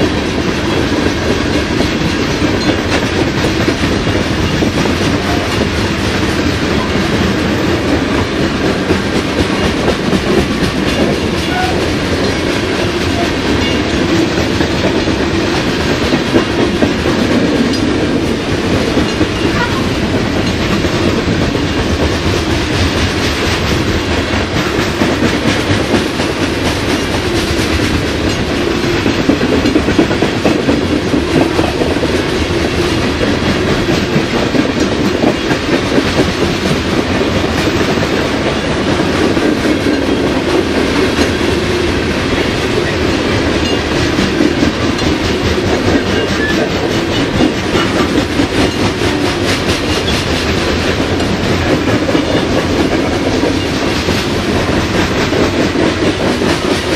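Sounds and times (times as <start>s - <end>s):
train wheels rumbling and clacking: 0.0s - 56.9s.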